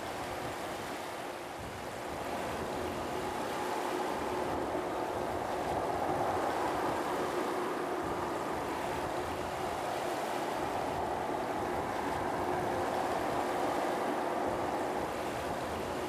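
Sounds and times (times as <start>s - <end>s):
distant jet engines rumbling: 1.7s - 16.0s.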